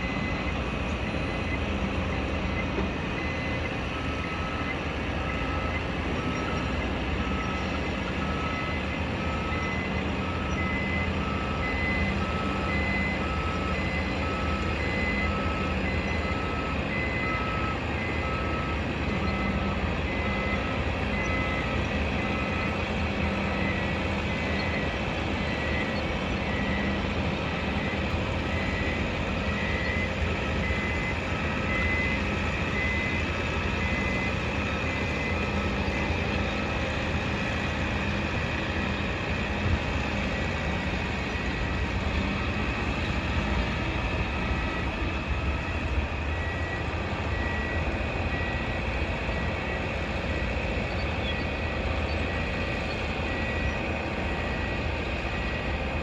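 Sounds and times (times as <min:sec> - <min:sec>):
heavy machinery rumble: 0:00.0 - 0:56.0
reversing alarms beeping: 0:00.0 - 0:56.0
traffic: 0:00.0 - 0:56.0.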